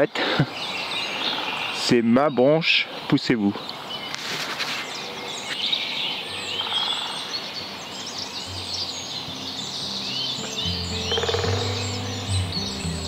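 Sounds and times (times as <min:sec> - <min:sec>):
soft outdoor background: 0:00.0 - 0:13.0
wild birds chirping: 0:00.0 - 0:13.0.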